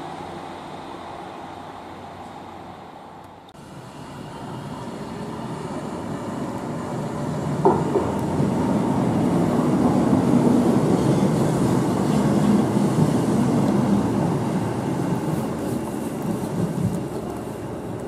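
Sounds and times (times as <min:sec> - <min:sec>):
tram passing with wheels on rail: 0:00.0 - 0:18.0.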